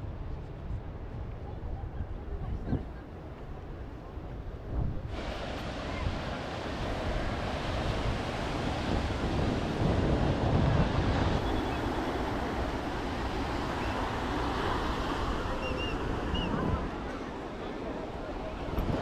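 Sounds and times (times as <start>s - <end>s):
wind buffeting microphone: 0.0s - 19.0s
ocean surf breaking on a beach: 2.6s - 19.0s.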